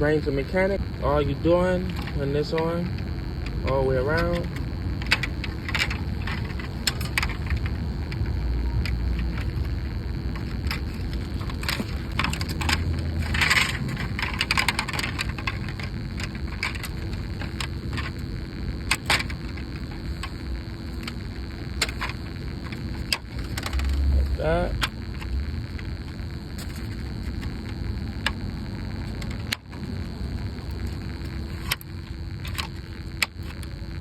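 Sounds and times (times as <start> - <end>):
steady low rumble: 0.0 - 34.0
hubcap clicks and clatter: 1.5 - 34.0.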